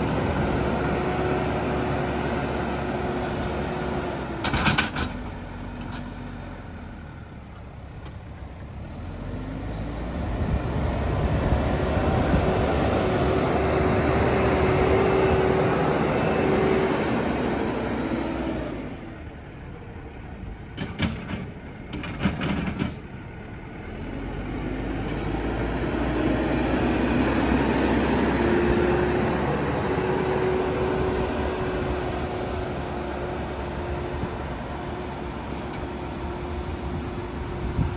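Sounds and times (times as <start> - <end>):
diesel engine revving: 0.0 - 7.0, 8.9 - 19.6, 20.2 - 37.9.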